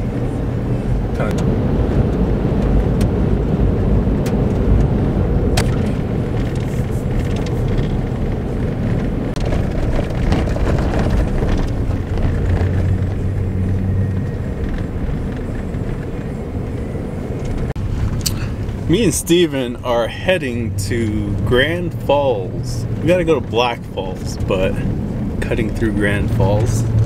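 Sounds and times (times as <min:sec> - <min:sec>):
tyres and engine rumbling: 0:00.0 - 0:27.0.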